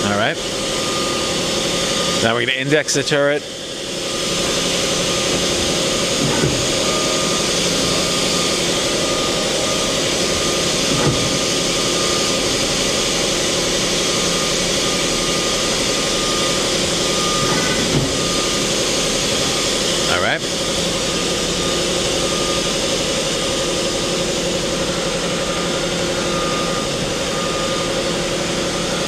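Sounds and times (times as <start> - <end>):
machine motors and pumps humming: 0.0 - 29.0
tool turret clunk and whir: 0.0 - 29.0.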